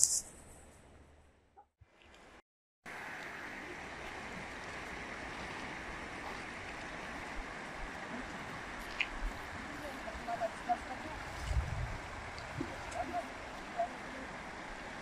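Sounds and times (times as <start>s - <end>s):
river rushing: 2.9s - 15.0s.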